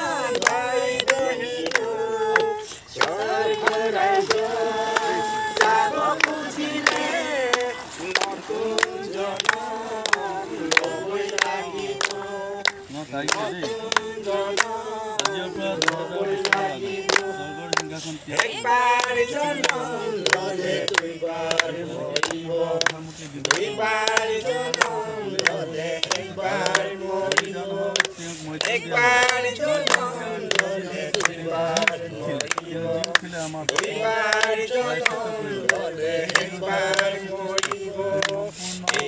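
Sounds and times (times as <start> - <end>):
group singing a worship song: 0.0 - 39.0
hand claps: 0.0 - 39.0.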